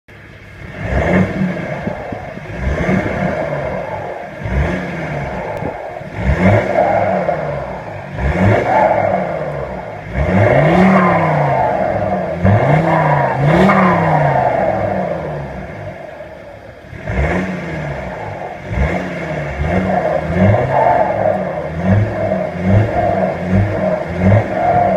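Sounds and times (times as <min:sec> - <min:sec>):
diesel engine revving: 0:00.1 - 0:24.9.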